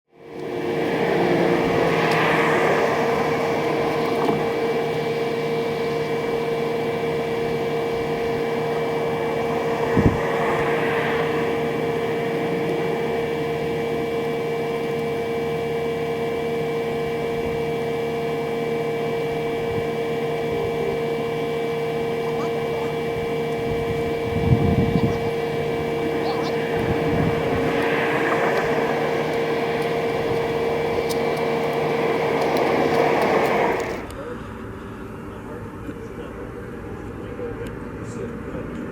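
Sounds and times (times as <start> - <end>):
mechanical drone: 0.1 - 38.8.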